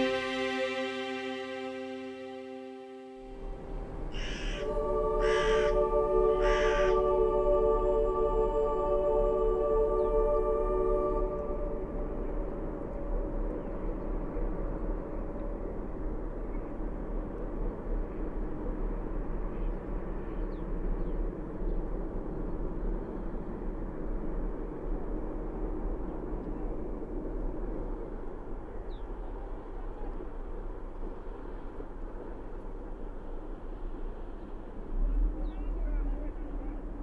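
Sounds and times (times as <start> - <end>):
faint hum: 0.0 - 37.0
low rumbling: 0.0 - 37.0.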